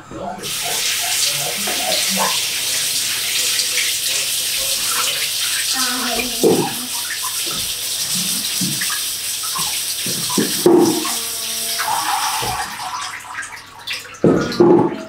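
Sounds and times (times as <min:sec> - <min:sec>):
tap water running into sink: 0:00.2 - 0:15.0.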